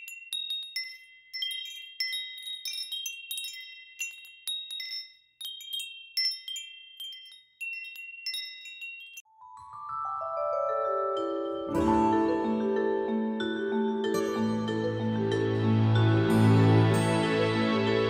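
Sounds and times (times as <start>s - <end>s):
wind chimes tinkling: 0.0s - 18.0s.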